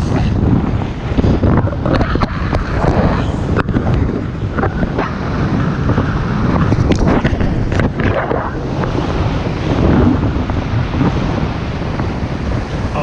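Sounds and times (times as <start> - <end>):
gusting wind noise on microphone: 0.0 - 13.0.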